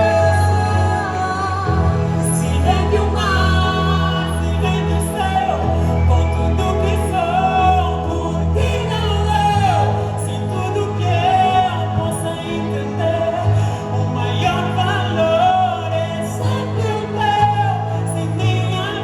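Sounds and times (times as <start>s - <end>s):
band with sustained bass: 0.0s - 19.0s
voices singing gospel: 0.0s - 19.0s.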